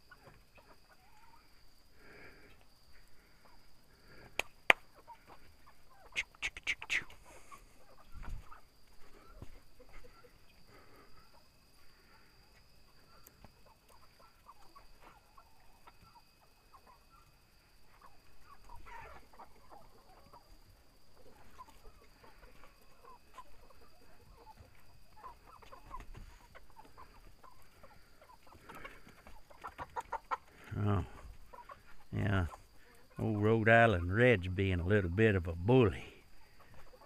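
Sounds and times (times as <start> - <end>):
hens clucking softly: 0.0 - 35.1, 35.8 - 37.0.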